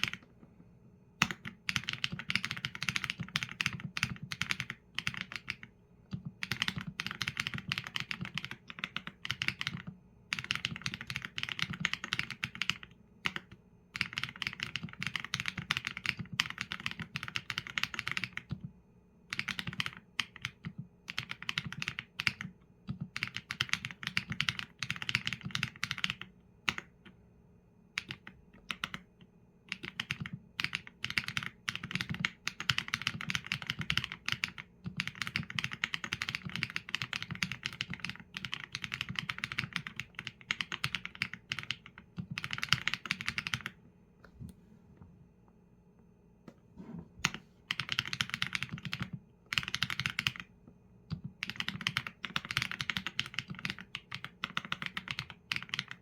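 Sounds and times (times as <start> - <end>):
typing on mechanical keyboard: 0.0 - 0.3, 1.2 - 18.7, 19.3 - 27.0, 28.0 - 29.1, 29.7 - 43.8, 47.2 - 50.5, 51.1 - 56.0.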